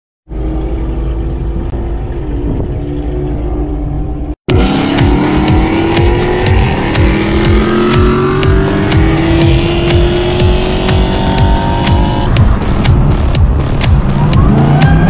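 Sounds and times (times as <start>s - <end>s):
car engine accelerating: 0.3s - 15.0s.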